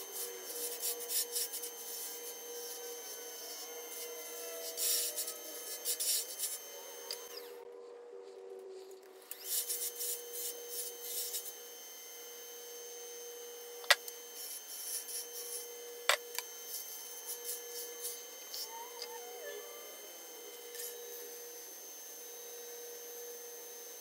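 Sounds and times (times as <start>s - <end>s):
wood lathe humming: 0.0s - 7.7s, 8.9s - 24.0s.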